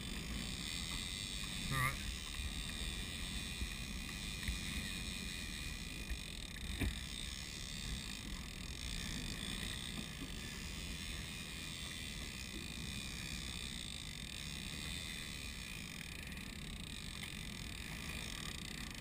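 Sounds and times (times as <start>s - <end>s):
boat engine running: 0.0s - 19.0s
wind: 0.0s - 19.0s.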